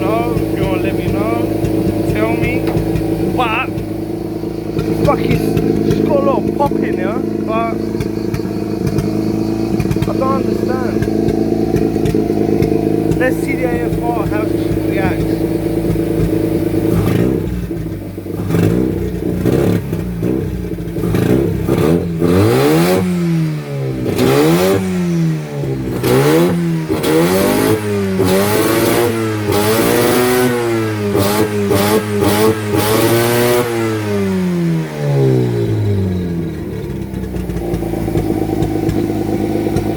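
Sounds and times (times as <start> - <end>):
exhaust pops and crackles: 0.0 - 39.9
rotary engine revving: 0.0 - 39.9.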